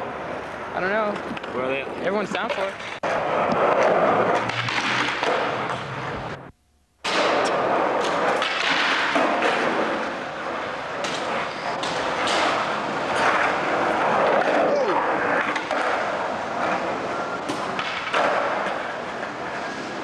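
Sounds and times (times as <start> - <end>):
skateboard wheels rolling on pavement: 0.0 - 20.0.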